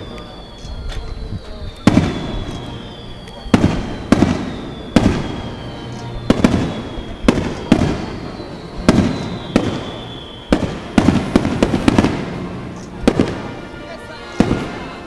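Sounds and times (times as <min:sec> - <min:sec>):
fireworks bursting with echoing bangs: 0:00.0 - 0:15.0.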